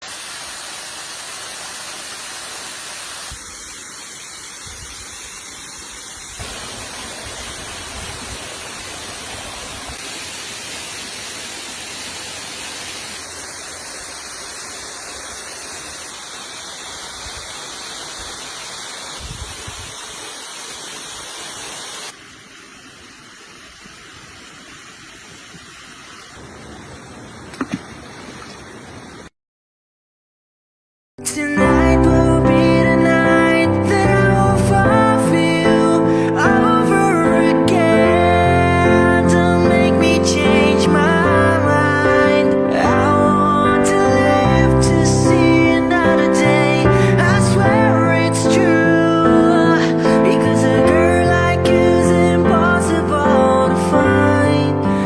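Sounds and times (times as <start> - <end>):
rushing water: 0.0 - 29.3, 31.2 - 55.0.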